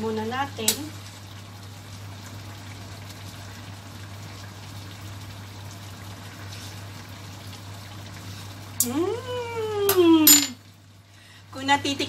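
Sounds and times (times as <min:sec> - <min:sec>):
sauce simmering with bubbling hiss: 0:00.0 - 0:12.0.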